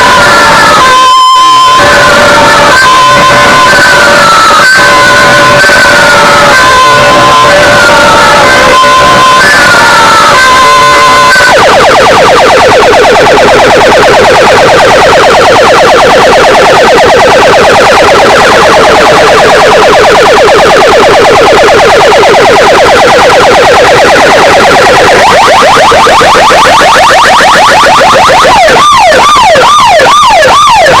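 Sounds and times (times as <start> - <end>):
electronic siren warbling: 0.0 - 31.0.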